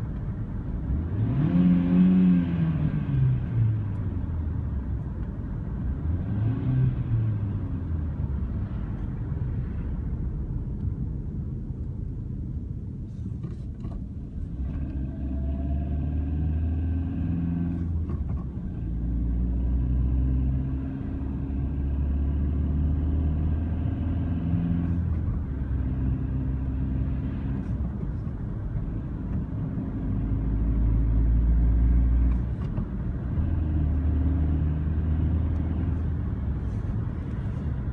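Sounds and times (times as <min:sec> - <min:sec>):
car engine and road drone: 0:00.0 - 0:37.9.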